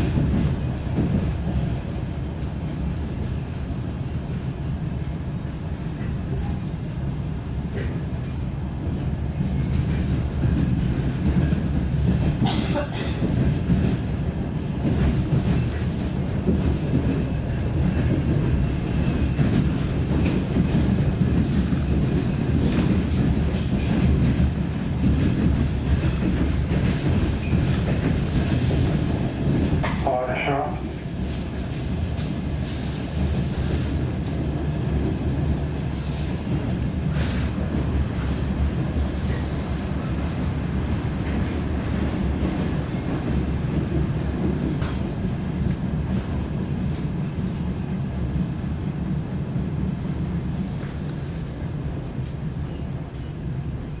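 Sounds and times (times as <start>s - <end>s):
diesel train rumble: 0.0s - 54.0s.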